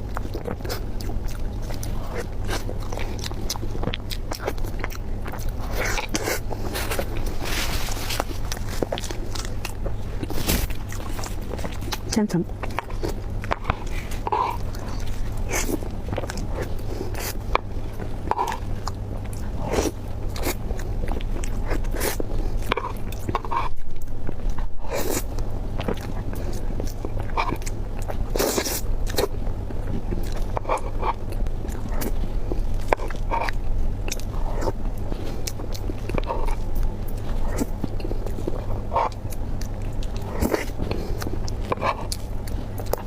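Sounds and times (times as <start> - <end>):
person biting and chewing food: 0.0 - 43.0
steady low hum: 0.0 - 43.0.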